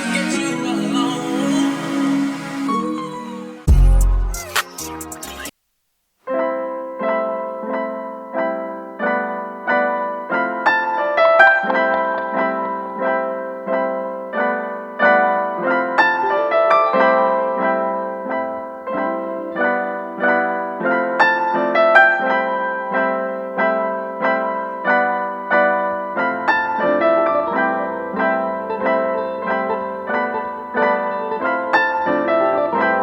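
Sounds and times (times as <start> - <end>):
gentle piano music: 6.3 - 33.0.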